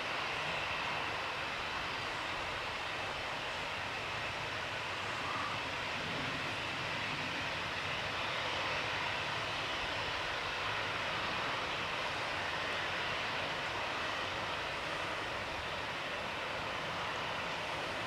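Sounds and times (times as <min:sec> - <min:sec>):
jet airliner landing: 0:00.1 - 0:18.0.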